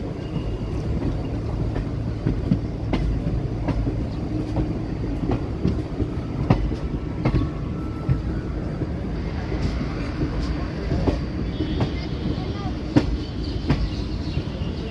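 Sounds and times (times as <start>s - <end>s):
train coach rumble: 0.0s - 14.9s.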